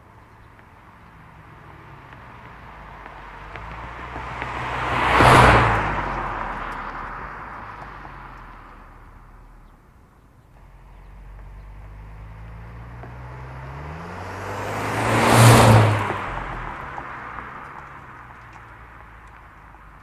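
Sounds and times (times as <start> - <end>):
car accelerating past: 1.1 - 9.7, 10.6 - 20.0.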